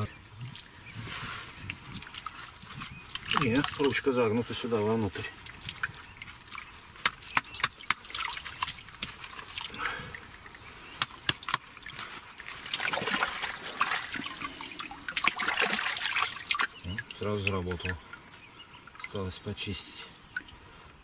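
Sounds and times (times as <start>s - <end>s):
muddy water sloshing: 0.0s - 20.9s.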